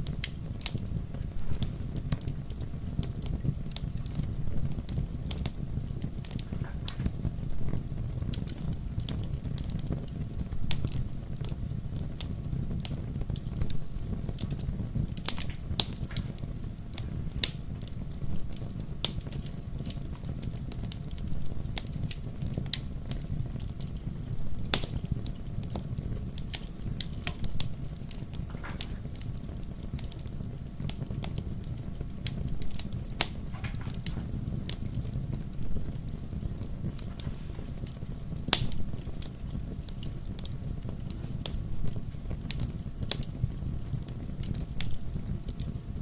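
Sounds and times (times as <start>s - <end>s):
fire pops and snaps: 0.0s - 46.0s
low rumble of flames: 0.0s - 46.0s.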